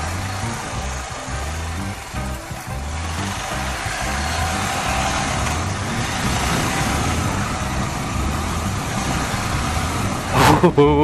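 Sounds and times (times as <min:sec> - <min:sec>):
motorcycle engine running: 0:00.0 - 0:11.0
rushing road noise: 0:00.0 - 0:11.0.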